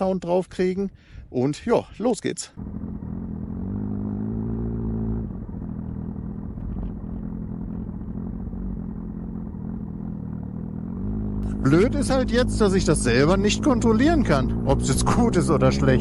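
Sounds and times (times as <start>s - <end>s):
motorcycle engine running: 2.6s - 16.0s.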